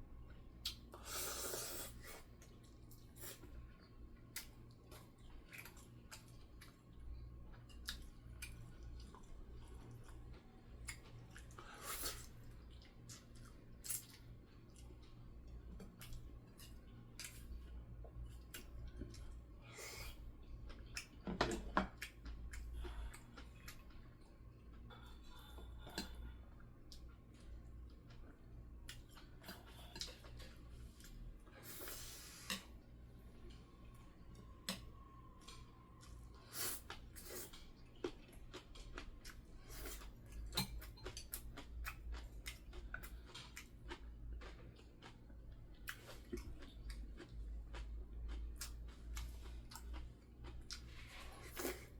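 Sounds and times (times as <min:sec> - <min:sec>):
chewing: 0:02.2 - 0:51.9.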